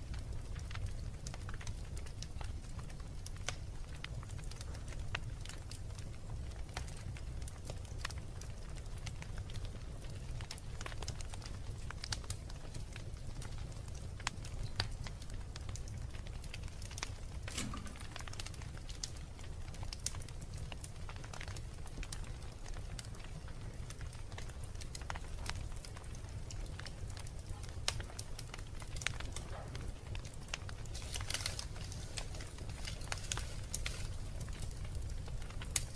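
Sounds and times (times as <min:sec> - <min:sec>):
wood fire crackling and popping: 0:00.0 - 0:35.9.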